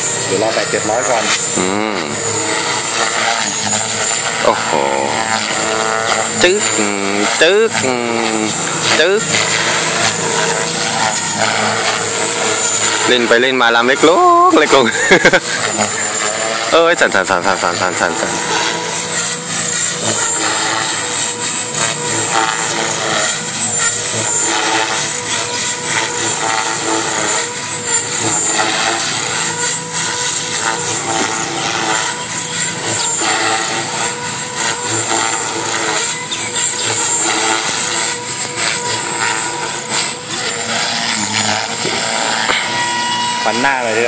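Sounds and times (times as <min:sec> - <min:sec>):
model helicopter whine: 0:00.0 - 0:44.0.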